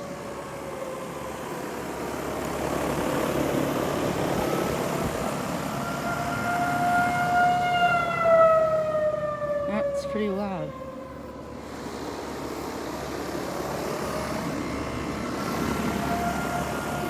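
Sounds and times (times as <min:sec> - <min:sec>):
warning siren steady tone: 0:00.0 - 0:17.0.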